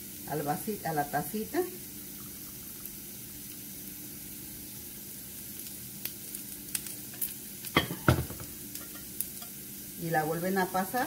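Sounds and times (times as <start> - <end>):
potatoes sizzling in a skillet: 0.0 - 11.0.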